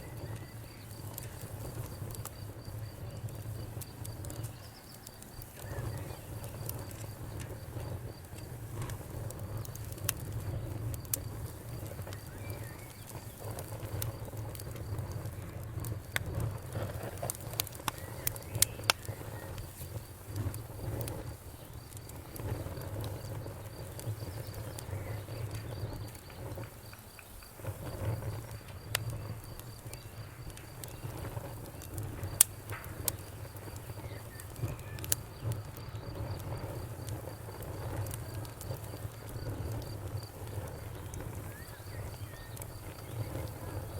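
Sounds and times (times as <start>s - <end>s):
low rumble of flames: 0.0s - 43.9s
sharp pops and snaps: 0.0s - 43.9s
wood fire crackling: 0.0s - 43.9s.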